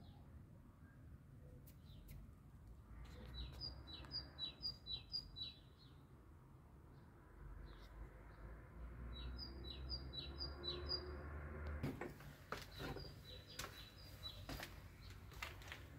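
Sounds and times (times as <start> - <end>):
small birds chirping: 1.4 - 6.2, 6.9 - 11.3, 12.2 - 15.9.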